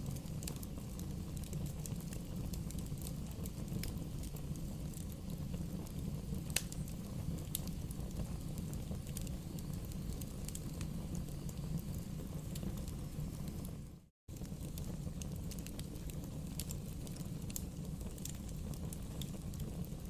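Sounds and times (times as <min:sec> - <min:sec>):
burning wood crackling: 0:00.0 - 0:20.0
low rumble of flame: 0:00.0 - 0:20.0.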